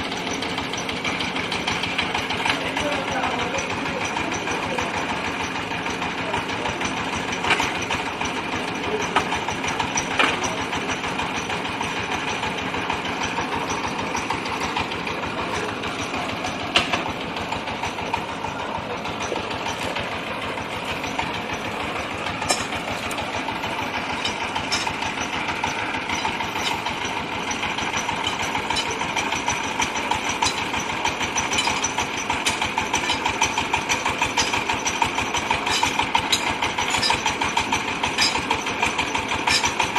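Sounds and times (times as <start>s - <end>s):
rock drill hammering rattle: 0.0s - 39.9s
engine drone: 7.4s - 39.9s.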